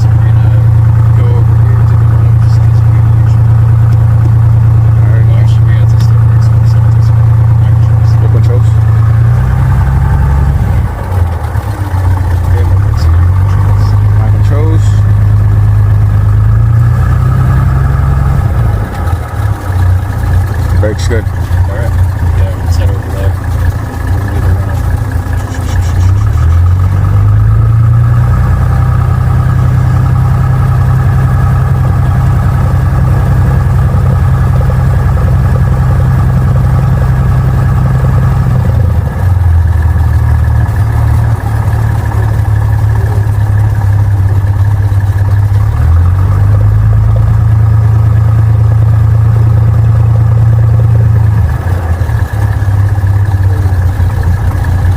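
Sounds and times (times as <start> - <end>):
light aircraft engine revving: 0.0 - 54.9.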